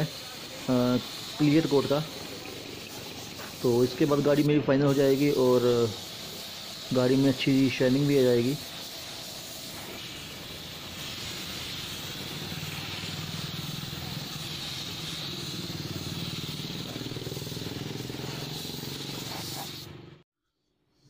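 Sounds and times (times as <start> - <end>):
paint spray gun hissing: 0.0 - 20.2.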